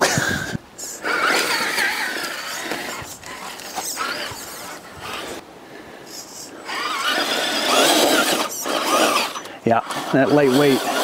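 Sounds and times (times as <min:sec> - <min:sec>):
electric motor whining: 0:00.0 - 0:05.5, 0:06.1 - 0:11.0
scraping over rocks: 0:00.1 - 0:05.4, 0:06.6 - 0:11.0.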